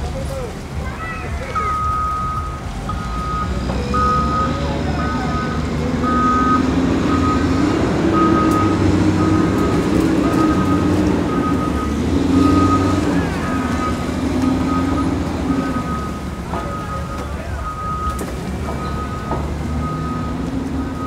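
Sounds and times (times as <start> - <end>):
vehicle engine running: 0.0 - 21.0
reversing alarm beeping: 1.5 - 21.0.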